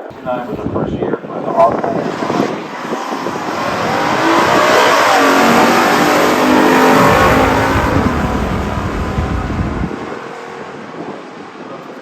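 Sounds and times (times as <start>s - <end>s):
v-eight engines at full throttle: 0.6s - 12.0s.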